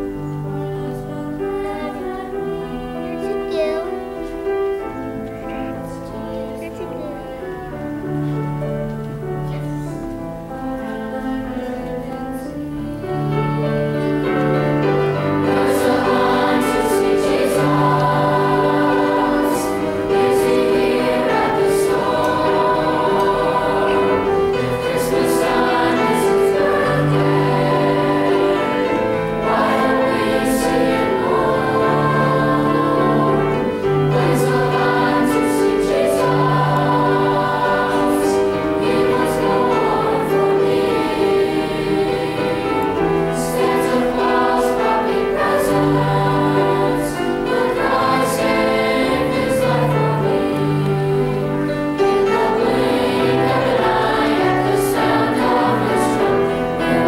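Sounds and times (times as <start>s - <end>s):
choir singing in parts: 0.0s - 57.0s.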